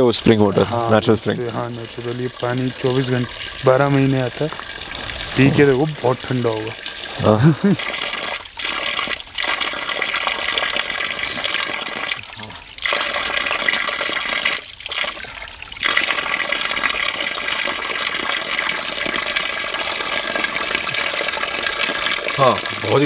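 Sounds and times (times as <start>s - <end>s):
spring water splashing over rocks: 0.0s - 23.0s.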